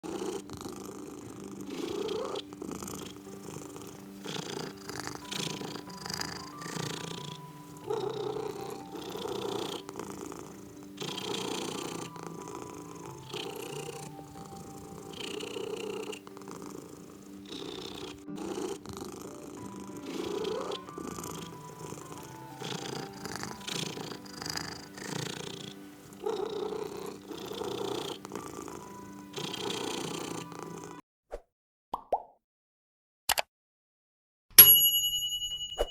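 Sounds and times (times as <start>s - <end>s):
cat snoring: 0.0s - 31.0s.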